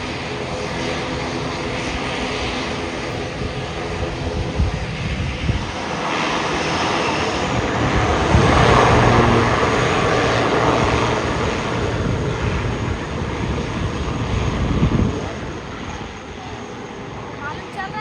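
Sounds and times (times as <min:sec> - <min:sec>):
jet airliner engines roaring past: 0:00.0 - 0:18.0.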